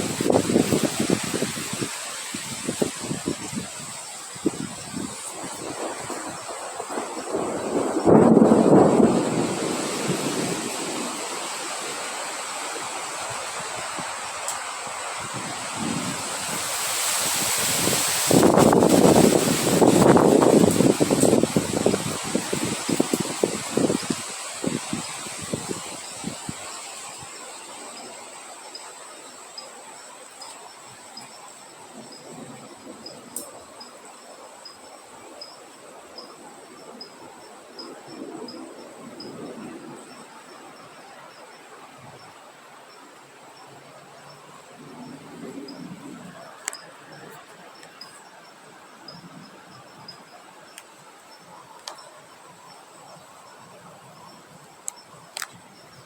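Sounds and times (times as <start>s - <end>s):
wind blowing: 0.0s - 42.9s, 43.6s - 56.0s
high insect trill: 0.0s - 56.0s.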